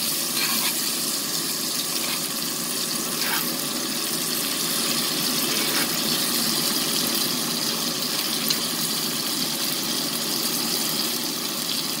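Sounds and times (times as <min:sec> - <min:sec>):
butter sizzling in a skillet: 0:00.0 - 0:12.0.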